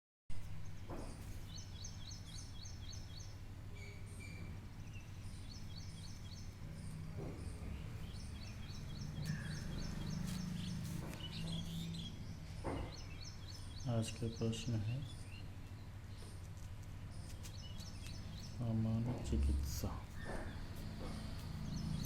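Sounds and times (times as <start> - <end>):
bird chirping: 0.4 - 22.0
steady low hum: 0.4 - 22.0.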